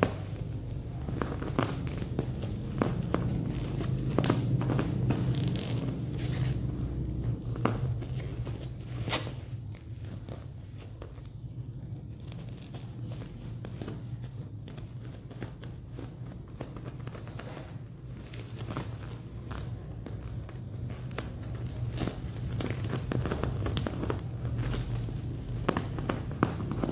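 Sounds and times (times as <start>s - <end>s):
plastic wrapping crinkling: 0.0s - 26.9s
steady low hum: 0.0s - 26.9s.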